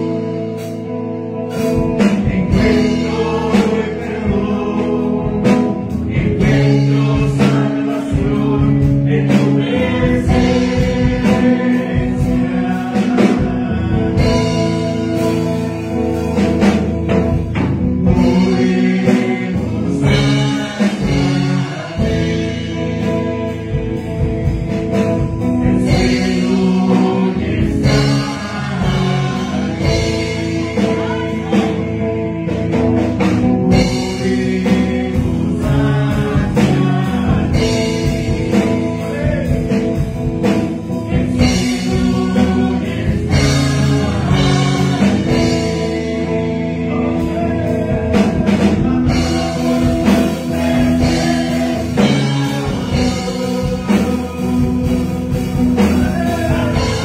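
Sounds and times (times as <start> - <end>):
instrumental accompaniment: 0.0 - 57.0
man singing into microphone: 1.6 - 16.0, 18.0 - 32.8, 33.4 - 57.0.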